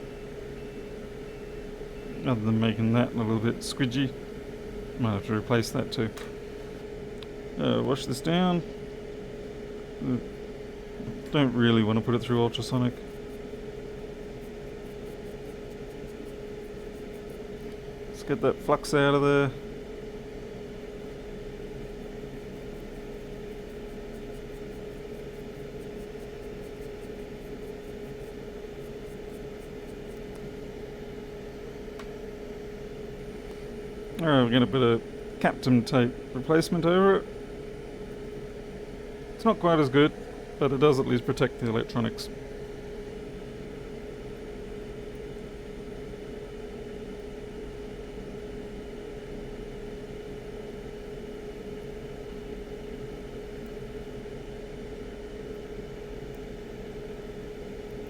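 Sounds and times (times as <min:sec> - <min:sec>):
bench equipment hum: 0:00.0 - 0:58.0.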